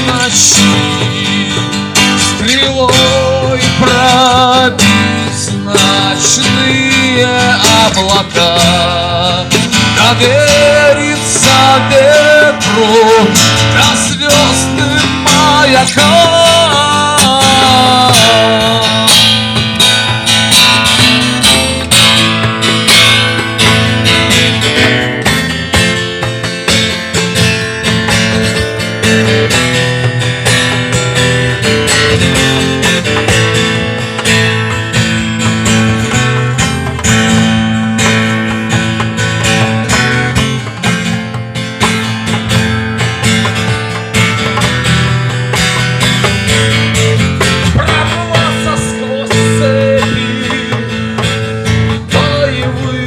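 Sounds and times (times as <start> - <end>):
acoustic guitar strumming chords: 0.0 - 53.0.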